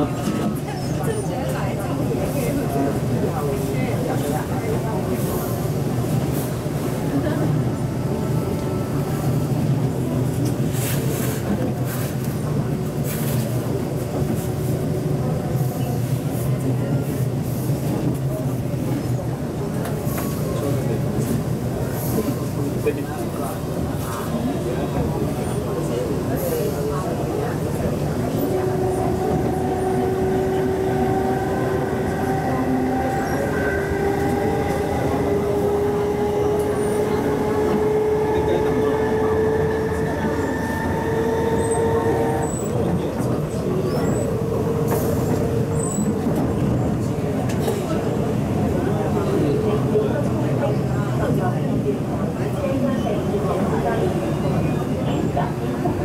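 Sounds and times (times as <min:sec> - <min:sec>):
train motors and wheels rumbling: 0:00.0 - 0:56.0.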